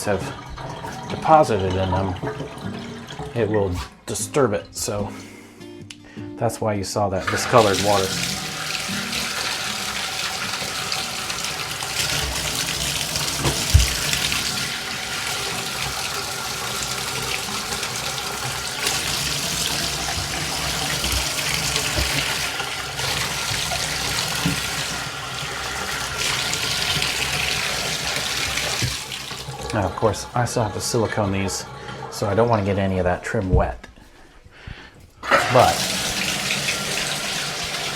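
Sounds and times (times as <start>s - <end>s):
water running into bathtub: 0.0s - 5.3s, 7.2s - 37.9s.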